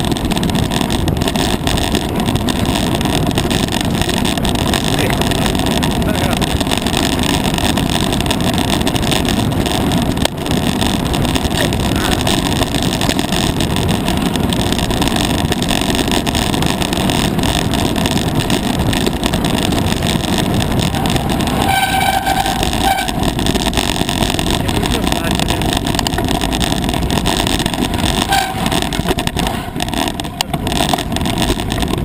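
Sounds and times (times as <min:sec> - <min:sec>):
bike tyres rattling on stones: 0:00.0 - 0:32.0
wind buffeting microphone: 0:00.0 - 0:32.0.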